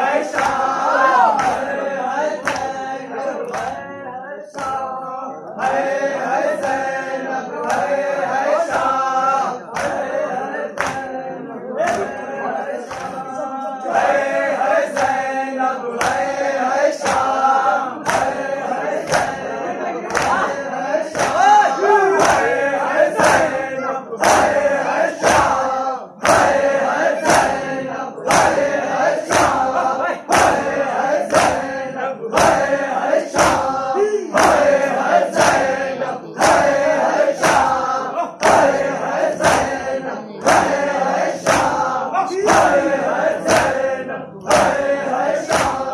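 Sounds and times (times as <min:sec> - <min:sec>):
men chanting in unison: 0:00.0 - 0:45.9
hands slapping chests: 0:00.1 - 0:03.8, 0:04.6 - 0:04.9, 0:05.6 - 0:10.2, 0:10.8 - 0:11.2, 0:11.8 - 0:12.3, 0:12.9 - 0:13.2, 0:14.9 - 0:21.5, 0:22.1 - 0:23.6, 0:24.2 - 0:45.9.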